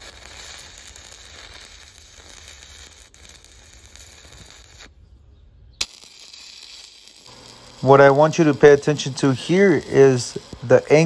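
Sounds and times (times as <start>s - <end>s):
welding arc crackling hiss: 0.0s - 4.9s, 5.8s - 11.0s.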